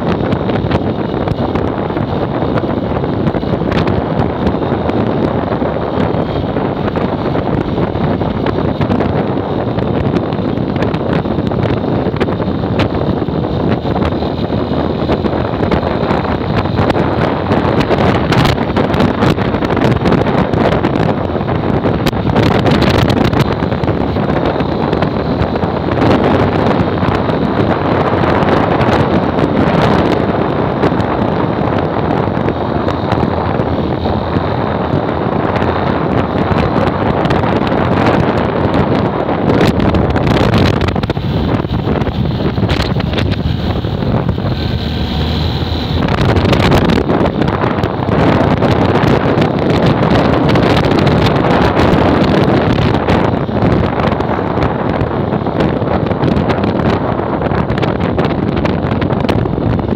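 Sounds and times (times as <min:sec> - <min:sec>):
motorcycle engine: 0:00.0 - 0:59.9
road noise: 0:00.0 - 0:59.9
wind rushing over microphone: 0:00.0 - 0:59.9.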